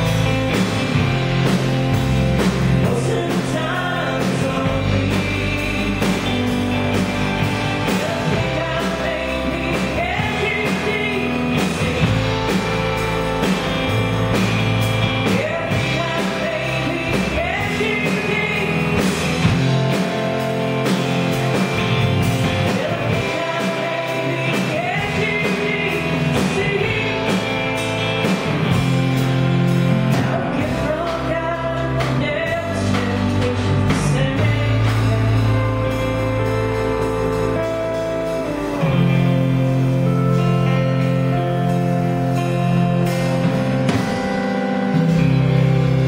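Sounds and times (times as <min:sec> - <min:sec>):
country-rock band playing: 0:00.0 - 0:46.0
lead singer singing: 0:02.3 - 0:45.2.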